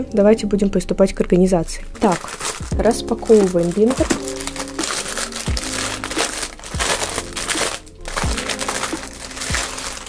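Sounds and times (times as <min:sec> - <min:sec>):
plastic wrapping crinkling: 0:01.9 - 0:10.0.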